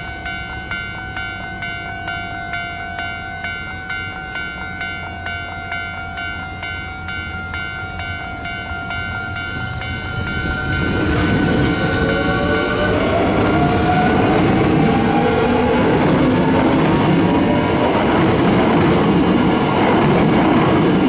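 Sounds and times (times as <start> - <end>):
electric train rumble and motor whine: 0.0 - 21.0
level-crossing warning bell: 0.0 - 21.0.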